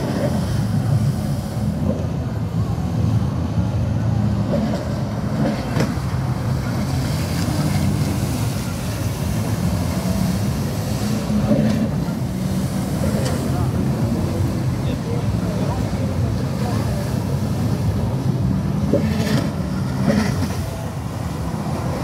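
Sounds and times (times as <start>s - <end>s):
jet ski engine droning: 0.0s - 22.0s.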